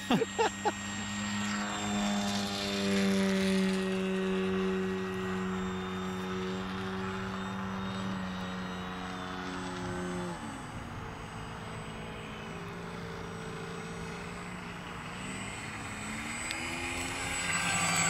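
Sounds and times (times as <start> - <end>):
model glider propeller droning: 0.0 - 18.0.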